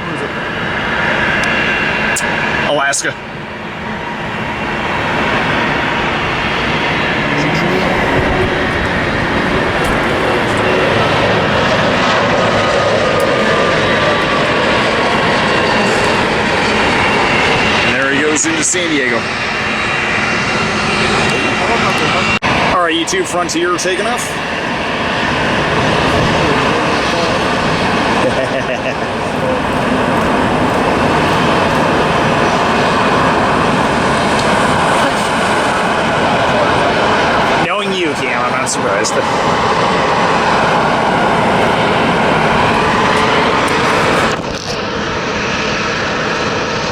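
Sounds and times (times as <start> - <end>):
jet airliner engines roaring: 0.0 - 46.9.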